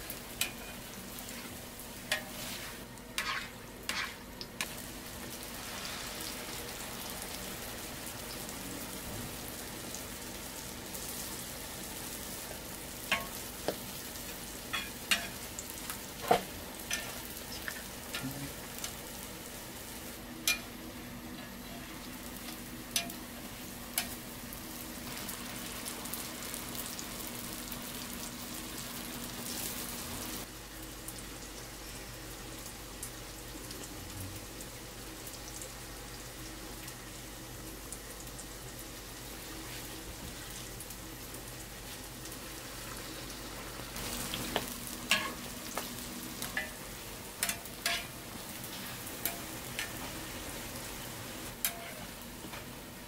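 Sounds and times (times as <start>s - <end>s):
pancakes sizzling in oil: 0.0s - 53.0s.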